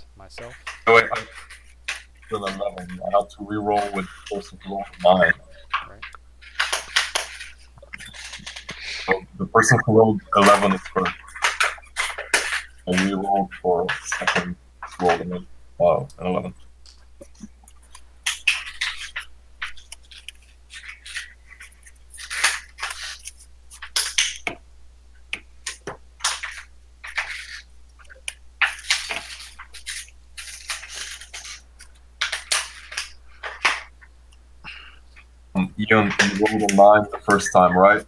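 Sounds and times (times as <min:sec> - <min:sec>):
cards being shuffled: 0:00.4 - 0:15.5, 0:16.2 - 0:24.6, 0:25.3 - 0:34.1, 0:35.6 - 0:38.0.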